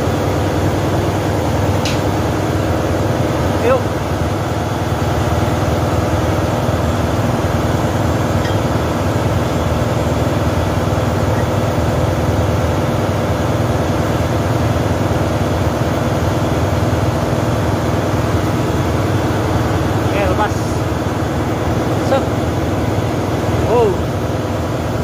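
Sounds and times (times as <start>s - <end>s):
engine room machinery drone: 0.0s - 25.0s.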